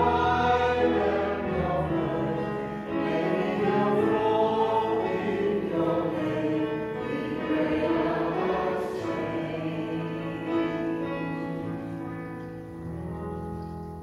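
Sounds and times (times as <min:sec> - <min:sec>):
choir singing a hymn: 0:00.0 - 0:12.0.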